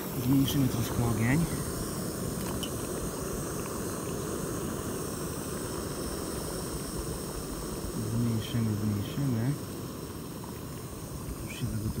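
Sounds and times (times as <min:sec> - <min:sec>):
gas stove burner roaring: 0:00.0 - 0:12.0
water boiling in pot: 0:00.0 - 0:12.0.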